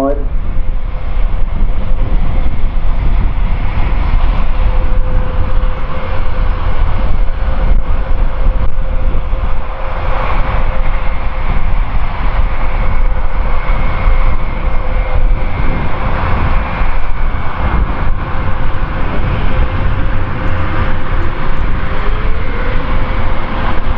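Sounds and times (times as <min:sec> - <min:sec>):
aircraft engines rumbling and whining: 0:00.0 - 0:23.9.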